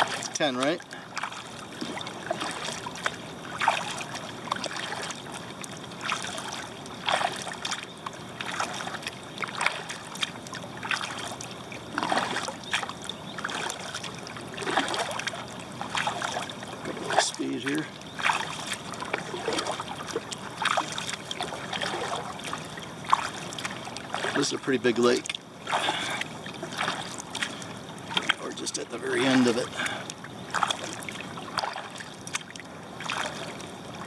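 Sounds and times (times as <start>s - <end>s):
kayak paddle splashing water: 0.0s - 34.0s
steady water hiss: 0.0s - 34.0s.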